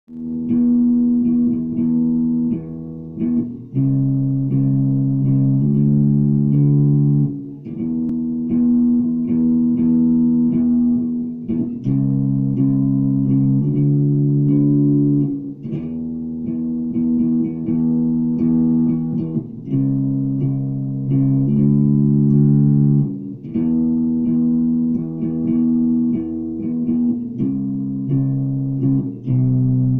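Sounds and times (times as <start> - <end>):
bass guitar melody: 0.1 - 29.9.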